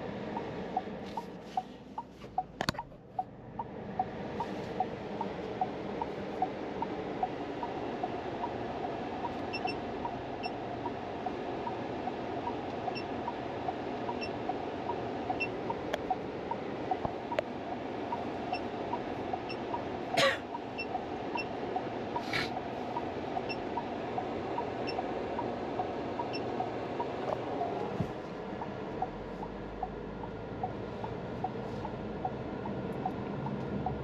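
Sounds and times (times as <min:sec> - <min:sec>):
car cabin fan hum: 0:00.0 - 0:34.0
soft ticking: 0:00.3 - 0:22.3, 0:22.9 - 0:27.9, 0:28.5 - 0:34.0.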